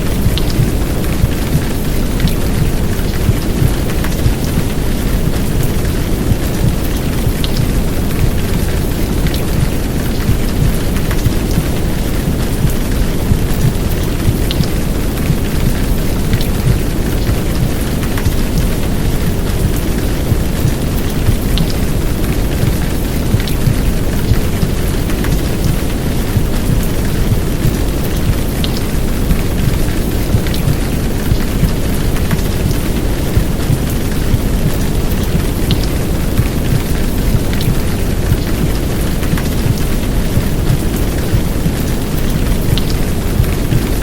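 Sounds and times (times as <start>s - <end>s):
heavy rain: 0.0s - 44.0s.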